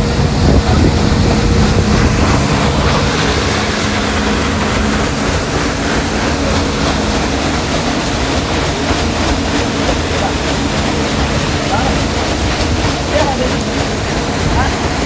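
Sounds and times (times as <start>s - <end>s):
low engine hum: 0.0s - 15.0s
paddle wheel churning water: 0.0s - 15.0s.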